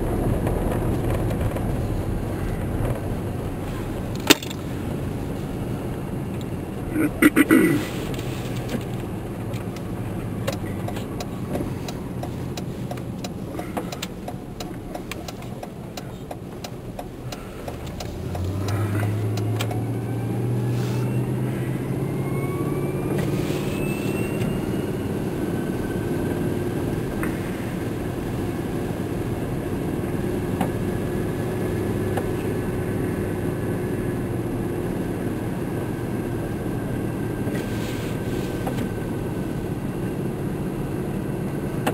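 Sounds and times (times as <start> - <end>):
rising engine whine: 0.0 - 14.9, 15.7 - 41.8
vehicle engine running: 0.0 - 41.9.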